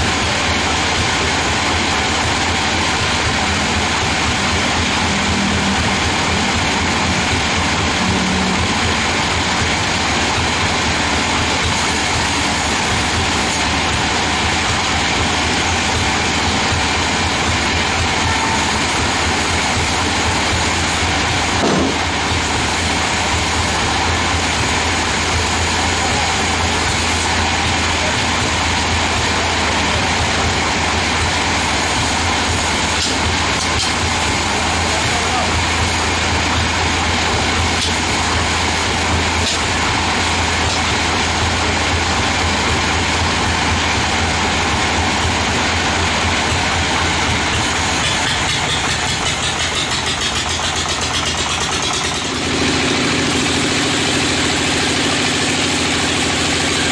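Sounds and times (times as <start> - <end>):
band saw cutting log: 0.0 - 56.9.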